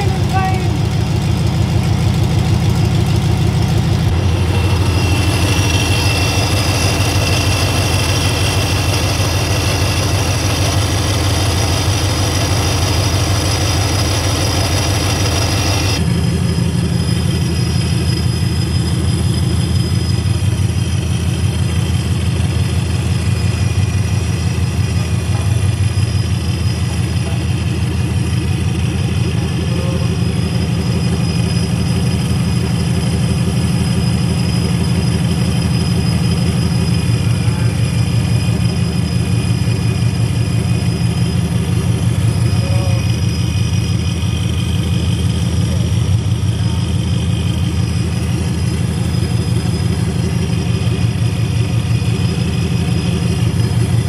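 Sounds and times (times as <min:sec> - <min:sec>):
truck engine idling loudly: 0:00.0 - 0:54.0.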